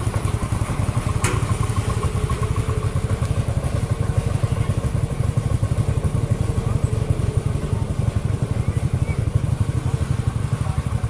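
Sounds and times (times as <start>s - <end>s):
engine running with rapid exhaust beat: 0.0s - 11.0s.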